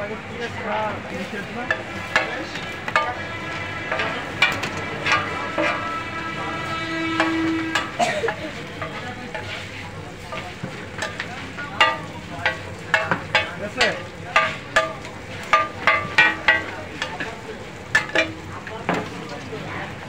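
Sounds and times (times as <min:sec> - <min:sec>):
food sizzling in oil: 0:00.0 - 0:20.0
metal spatula clanking on griddle: 0:01.1 - 0:19.2.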